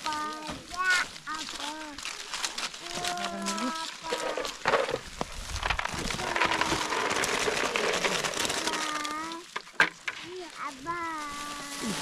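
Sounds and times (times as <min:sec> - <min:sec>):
acorns clattering together: 0:00.0 - 0:12.0
plastic bag rustling: 0:00.0 - 0:12.0.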